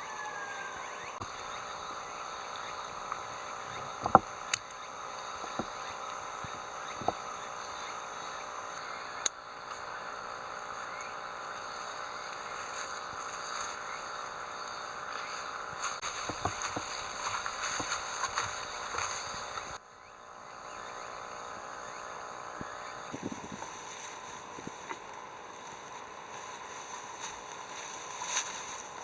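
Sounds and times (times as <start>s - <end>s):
insects chirping: 0.0s - 29.0s.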